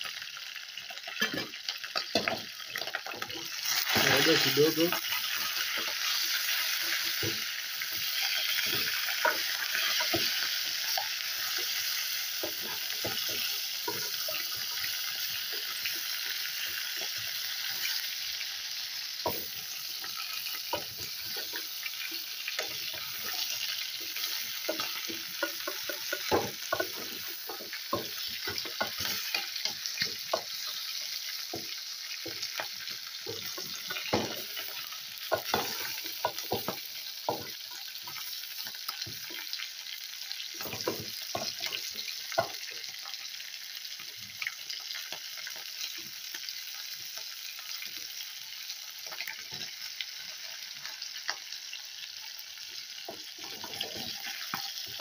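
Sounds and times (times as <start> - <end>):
chicken sizzling in oil: 0.0 - 55.0.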